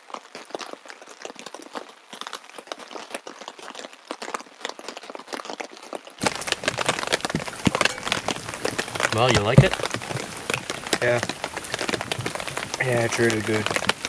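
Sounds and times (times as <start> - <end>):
rain falling on a tarp: 0.0 - 14.0
raindrops pattering: 0.0 - 14.0.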